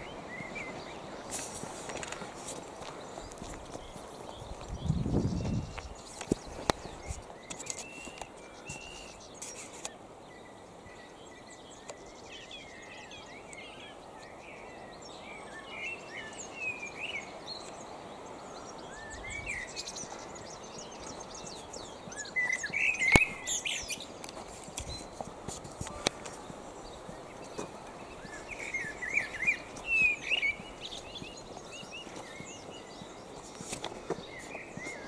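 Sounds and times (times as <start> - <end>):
outdoor background noise: 0.0 - 35.0
small birds chirping: 0.0 - 35.0.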